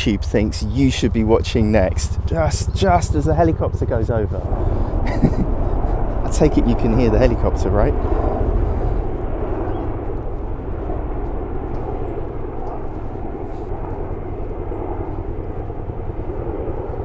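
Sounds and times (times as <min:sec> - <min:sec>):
helicopters flying over: 0:00.0 - 0:17.0.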